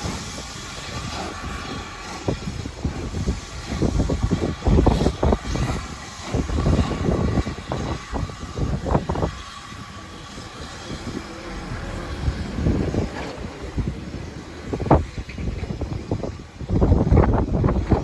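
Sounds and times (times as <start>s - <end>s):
steady low running noise: 0.0s - 18.0s
wind buffeting microphone: 0.0s - 18.0s.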